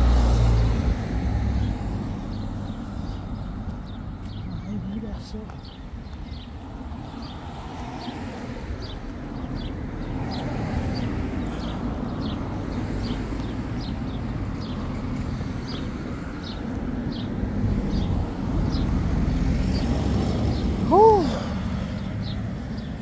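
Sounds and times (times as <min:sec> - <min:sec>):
street noise rumble: 0:00.0 - 0:23.0.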